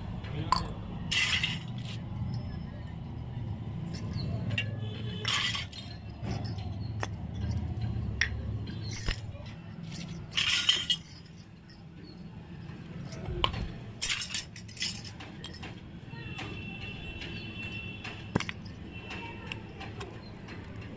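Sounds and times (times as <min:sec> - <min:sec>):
metal utensils clinking on concrete: 0:00.5 - 0:15.7, 0:17.4 - 0:20.2.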